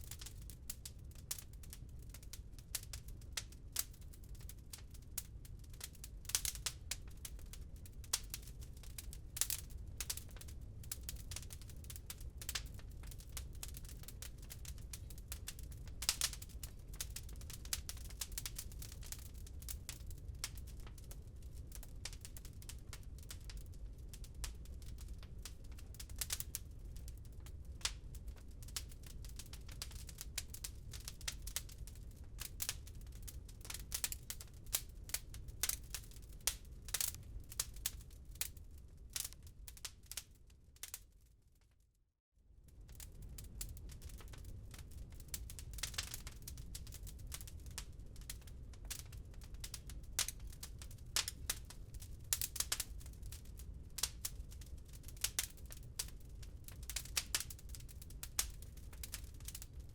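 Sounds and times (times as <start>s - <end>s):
wood fire crackling and popping: 0.0s - 41.2s, 42.7s - 59.9s.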